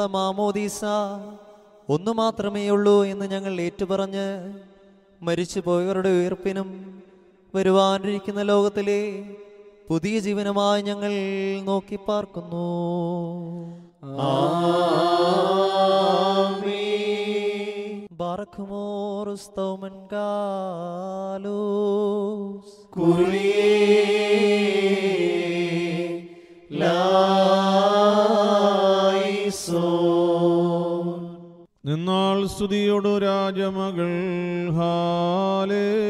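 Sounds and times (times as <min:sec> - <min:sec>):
liturgical hymn chanted: 0:00.0 - 0:36.0.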